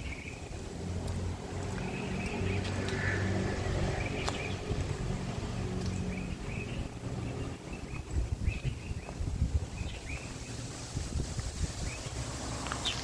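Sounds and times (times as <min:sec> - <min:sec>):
small birds chirping: 0:00.0 - 0:10.8, 0:11.4 - 0:13.0
low engine hum: 0:00.0 - 0:13.0.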